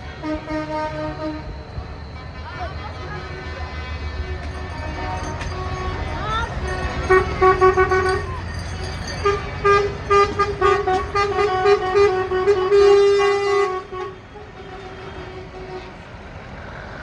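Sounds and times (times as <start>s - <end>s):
engine rumble: 0.0s - 17.0s
vehicle horn blasts: 0.1s - 1.6s, 2.7s - 8.4s, 9.2s - 15.9s.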